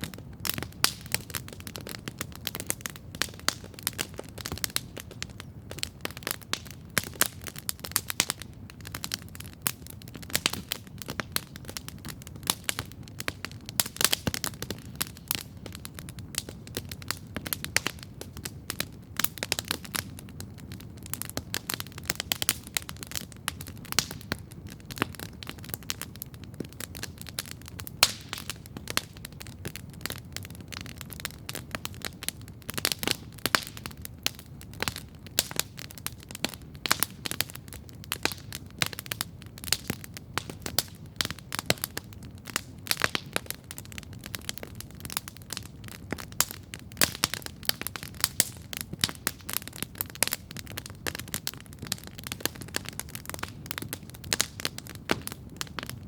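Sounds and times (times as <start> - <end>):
campfire crackling and popping: 0.0 - 56.0
low rumble of burning fire: 0.0 - 56.0.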